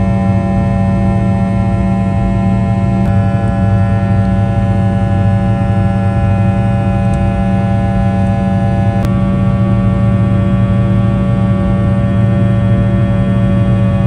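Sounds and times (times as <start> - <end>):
jet engine drone in cabin: 0.0 - 14.0
engine whining tones: 0.9 - 14.0.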